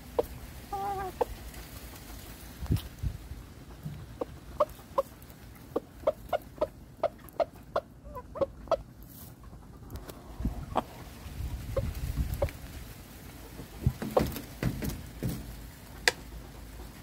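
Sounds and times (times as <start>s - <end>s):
chicken clucking: 0.0s - 14.6s, 15.9s - 17.0s.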